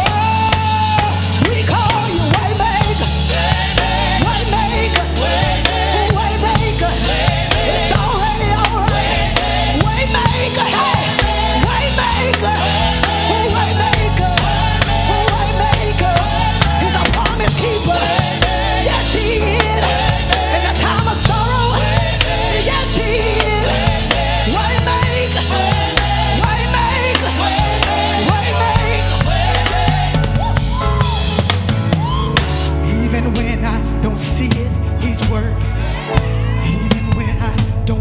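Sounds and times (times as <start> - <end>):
gospel band playing: 0.0 - 38.0.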